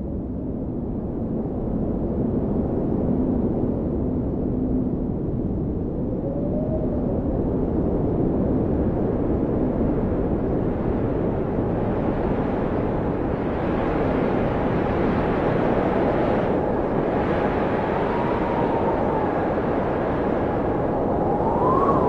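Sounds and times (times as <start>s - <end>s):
faint howling wind tones: 0.0s - 22.0s
blizzard wind rushing: 0.2s - 22.0s.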